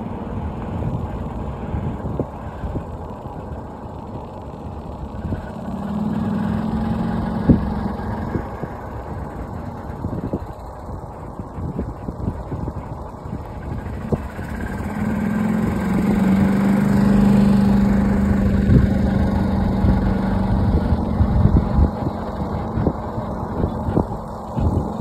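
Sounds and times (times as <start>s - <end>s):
road and wind noise: 0.0s - 25.0s
vehicle engine hum: 0.0s - 25.0s.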